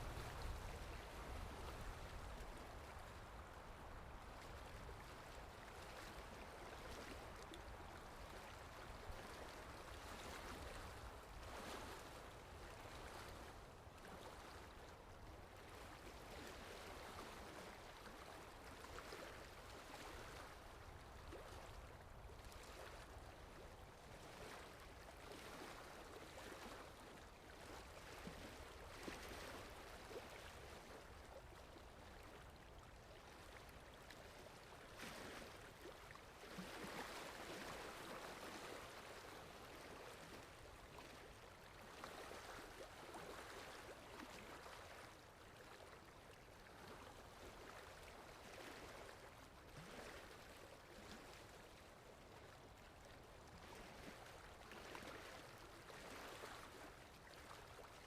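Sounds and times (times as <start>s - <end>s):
faint sea waves: 0.0s - 58.0s.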